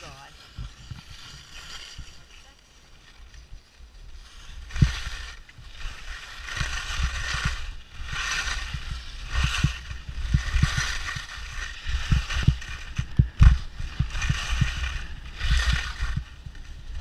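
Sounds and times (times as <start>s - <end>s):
skis hissing over snow: 0.0s - 17.0s.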